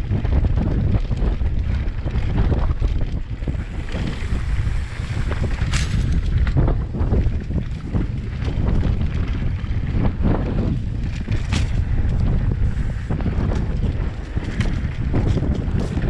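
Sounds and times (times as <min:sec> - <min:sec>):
bike rattling over bumps: 0:00.0 - 0:16.0
tyres rumbling on dirt trail: 0:00.0 - 0:16.0
wind on microphone: 0:00.0 - 0:16.0.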